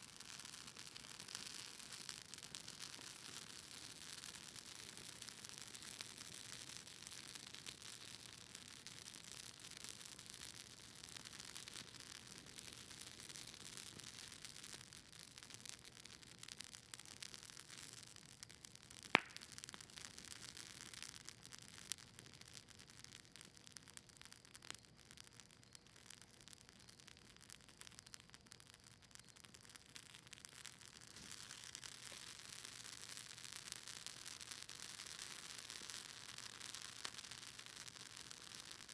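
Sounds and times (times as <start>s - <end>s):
campfire crackling softly: 0.0s - 38.9s.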